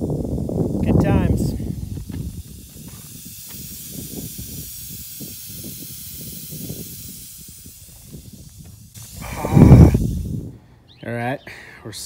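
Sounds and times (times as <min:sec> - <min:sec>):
air hissing from tire: 0:00.0 - 0:10.6.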